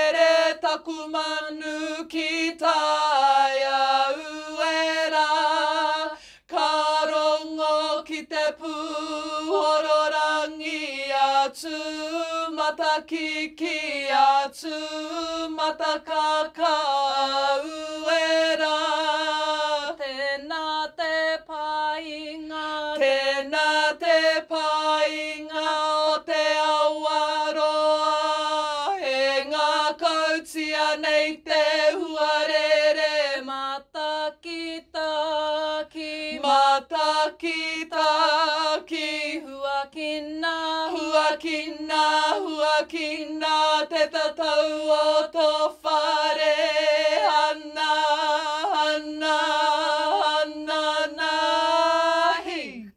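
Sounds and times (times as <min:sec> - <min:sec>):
unaccompanied chant: 0:00.0 - 0:52.9.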